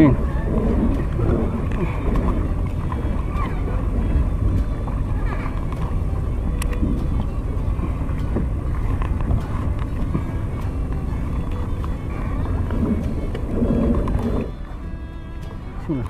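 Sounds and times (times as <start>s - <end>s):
choppy sea water: 0.0s - 16.0s
wind rumble: 0.0s - 16.0s.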